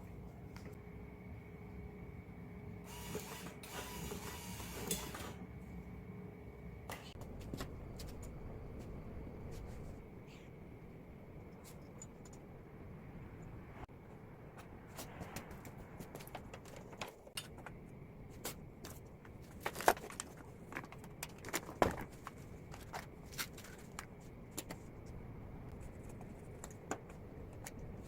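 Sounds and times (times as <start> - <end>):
low steady background noise: 0.0 - 28.0.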